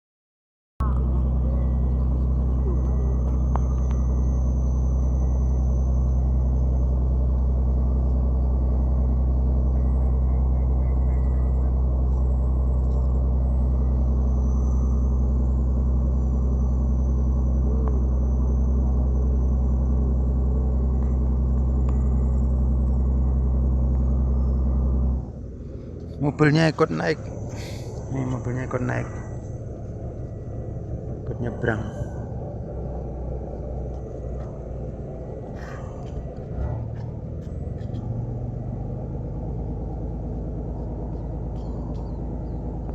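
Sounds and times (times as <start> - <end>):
boat engine droning: 0.8 - 42.9.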